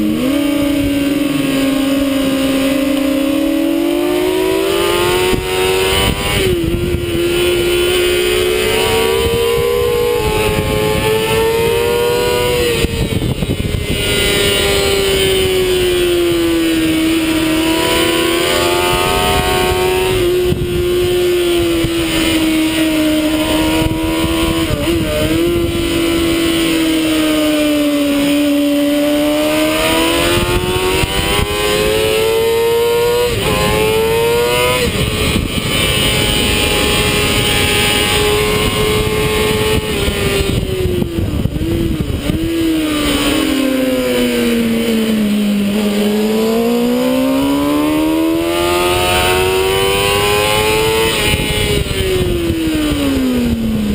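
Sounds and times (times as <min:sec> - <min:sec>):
motorcycle engine revving: 0:00.0 - 0:53.9
wind rush: 0:00.0 - 0:53.9.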